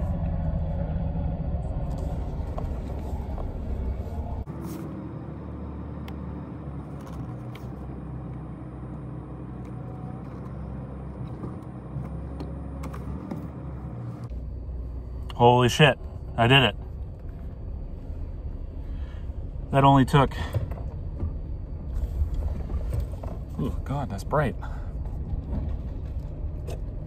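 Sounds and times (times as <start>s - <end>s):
engine running at low speed: 0.0s - 27.0s.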